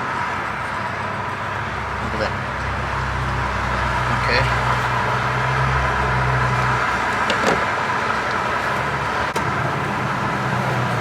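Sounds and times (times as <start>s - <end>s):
vehicle noise: 0.0s - 11.0s.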